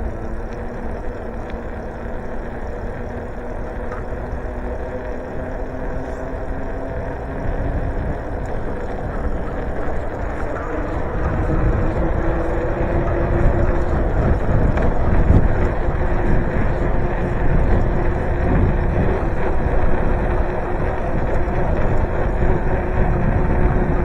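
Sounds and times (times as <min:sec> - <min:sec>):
road and tyre noise: 0:00.0 - 0:24.0
wind buffeting microphone: 0:00.0 - 0:24.0.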